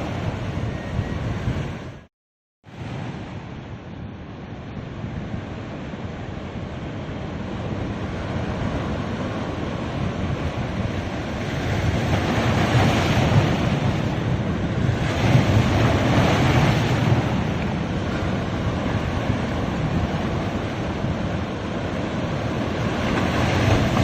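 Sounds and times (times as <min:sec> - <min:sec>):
ocean waves breaking on beach: 0:02.7 - 0:24.0.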